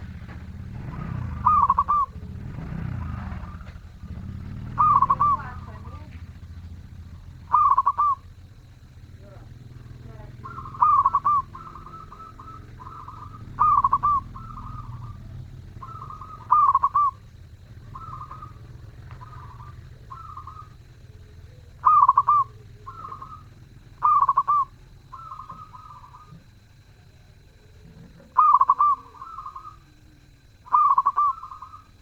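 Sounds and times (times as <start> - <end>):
dove cooing: 0.0 - 32.0.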